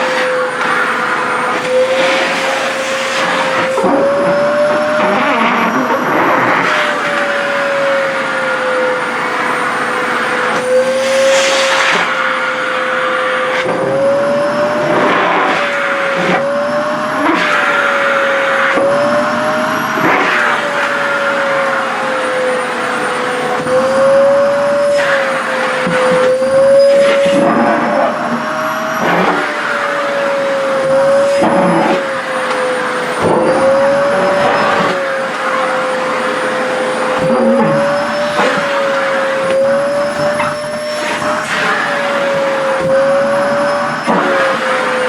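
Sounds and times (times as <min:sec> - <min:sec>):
vacuum cleaner motor whine: 0:00.0 - 0:45.0.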